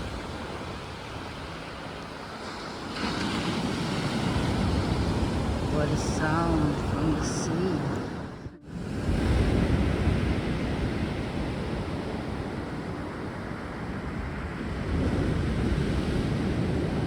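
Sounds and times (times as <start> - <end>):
surf breaking on a beach: 0.0 - 17.0.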